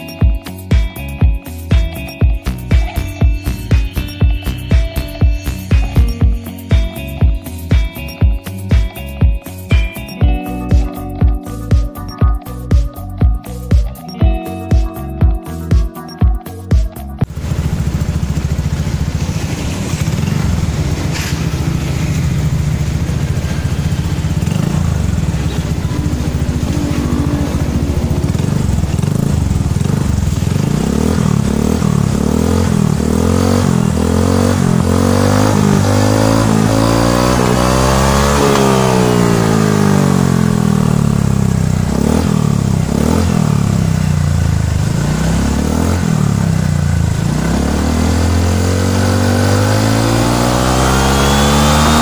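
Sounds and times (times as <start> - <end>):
scooter engine idling and revving: 0.0 - 52.0.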